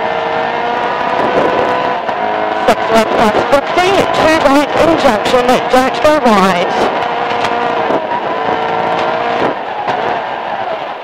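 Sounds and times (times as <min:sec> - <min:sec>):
rally car engine from inside: 0:00.0 - 0:11.0.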